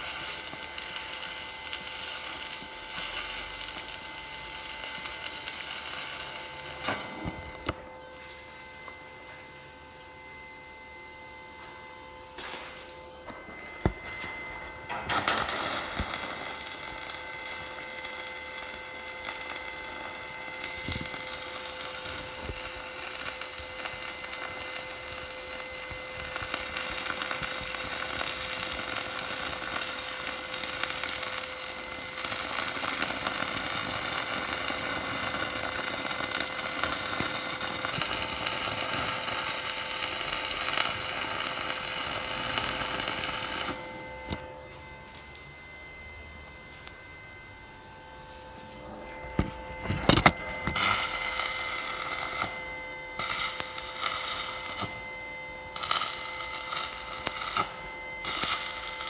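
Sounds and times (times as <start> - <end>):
welding arc crackling: 0.0 - 7.9, 14.5 - 44.5, 49.1 - 59.0.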